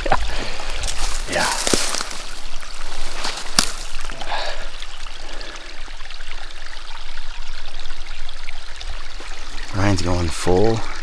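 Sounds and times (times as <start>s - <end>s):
spring water trickling: 0.0s - 11.0s.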